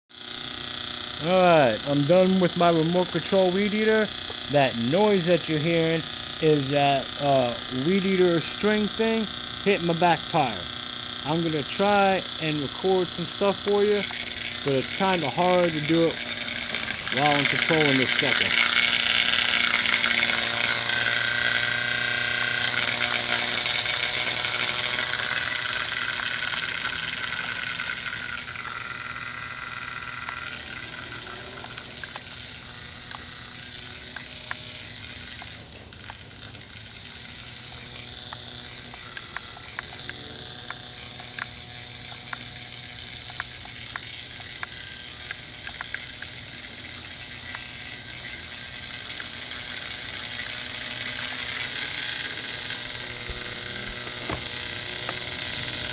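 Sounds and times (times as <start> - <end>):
sharp clicks and rattles: 0.1 - 55.9
string trimmer running: 0.1 - 55.9.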